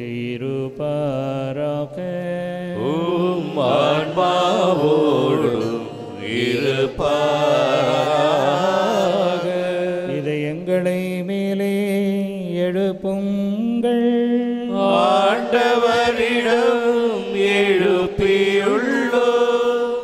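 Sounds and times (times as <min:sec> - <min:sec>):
congregation singing: 0:00.0 - 0:11.2, 0:14.7 - 0:20.0
priest chanting: 0:00.0 - 0:11.2, 0:14.7 - 0:20.0.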